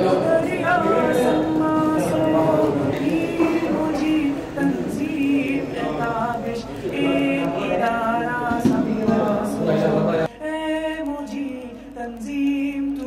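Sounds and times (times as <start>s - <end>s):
unaccompanied vocal singing: 0.0s - 13.0s.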